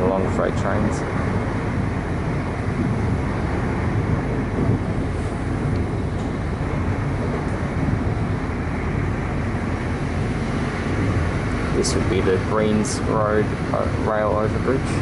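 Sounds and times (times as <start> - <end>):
electric train running on track: 0.0 - 15.0.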